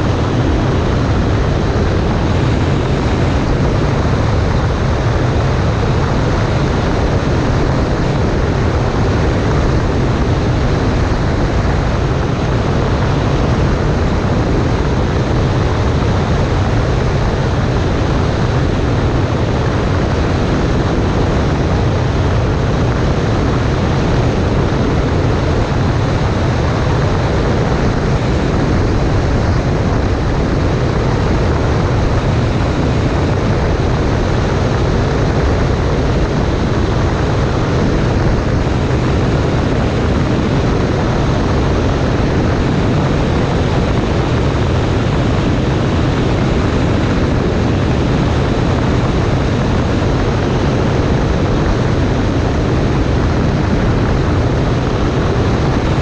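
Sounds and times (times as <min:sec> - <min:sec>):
light aircraft engine drone: 0:00.0 - 0:56.0
rushing wind noise: 0:00.0 - 0:56.0.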